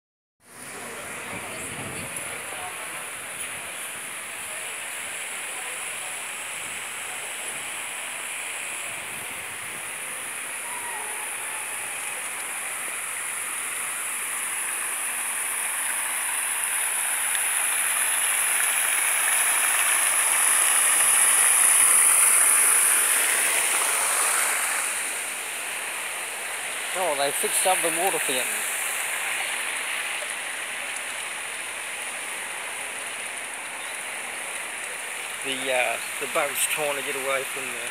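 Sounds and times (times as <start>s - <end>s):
water fountain splashing: 0.4s - 37.9s.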